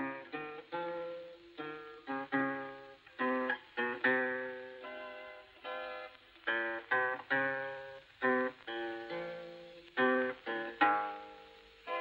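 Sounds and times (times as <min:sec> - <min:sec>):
acoustic guitar melody: 0:00.0 - 0:12.0.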